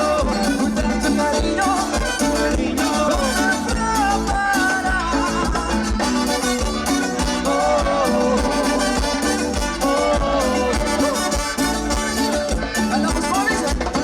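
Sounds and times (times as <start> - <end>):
live latin dance band: 0.0 - 14.0.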